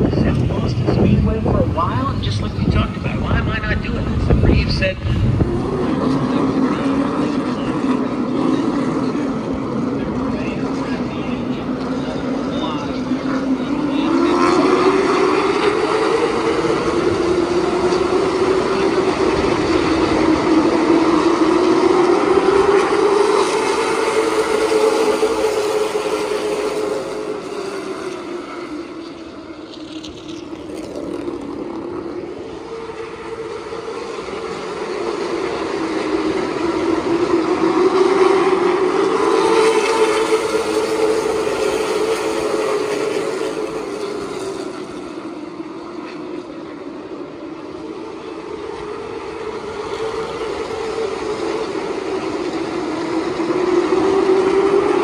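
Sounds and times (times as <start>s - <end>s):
race car engines at speed: 0.0s - 55.0s.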